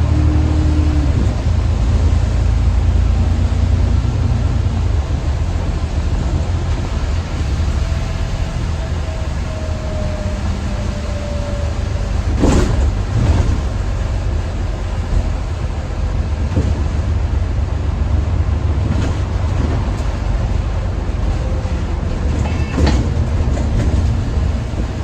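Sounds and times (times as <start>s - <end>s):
diesel bus engine rumbling: 0.0s - 25.0s.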